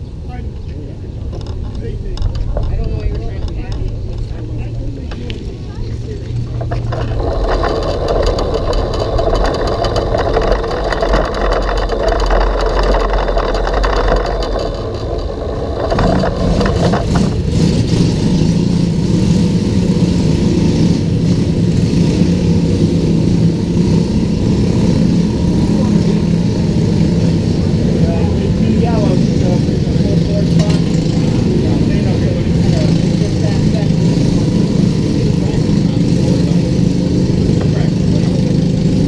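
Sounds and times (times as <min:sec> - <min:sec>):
go-kart engine running: 0:00.0 - 0:39.0.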